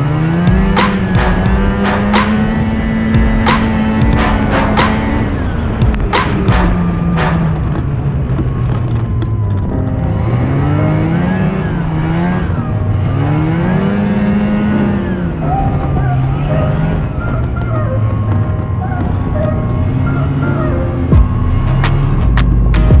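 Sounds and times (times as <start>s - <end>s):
rush of wind and snow: 0.0s - 23.0s
snowmobile engine running: 0.0s - 23.0s.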